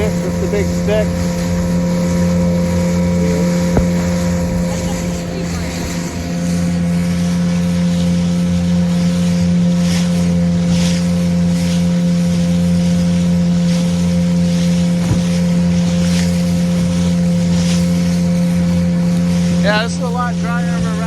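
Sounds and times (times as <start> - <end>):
motorboat engine drone: 0.0 - 21.0
water splashing along hull: 0.0 - 21.0.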